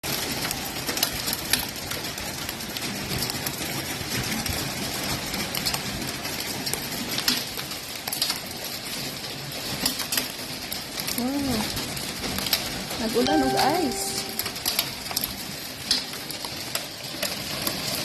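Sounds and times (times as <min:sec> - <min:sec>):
hailstones clicking on hard surfaces: 0:00.0 - 0:13.2, 0:14.4 - 0:18.0.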